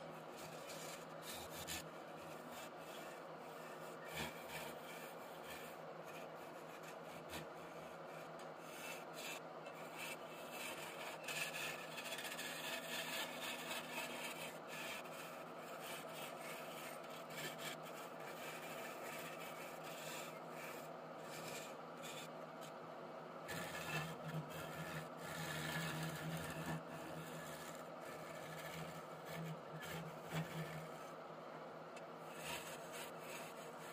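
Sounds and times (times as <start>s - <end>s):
chisel scraping wood on lathe: 0.2s - 22.8s, 23.5s - 31.2s, 32.2s - 33.9s.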